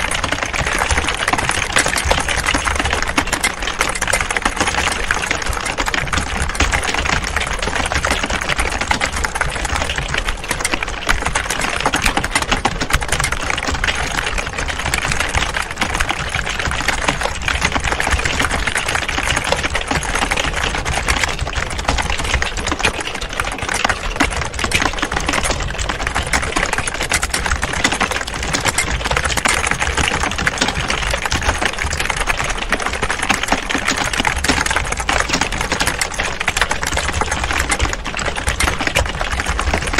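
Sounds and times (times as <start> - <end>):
many keyboards typing: 0.0 - 39.9.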